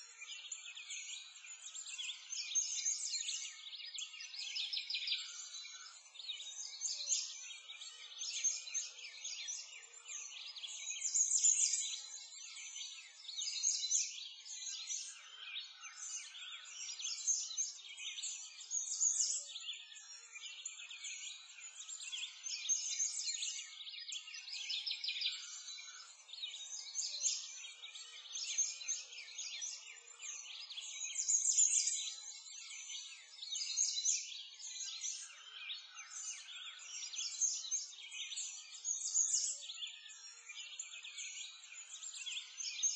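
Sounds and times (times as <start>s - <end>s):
birds chorus: 0.0s - 42.9s.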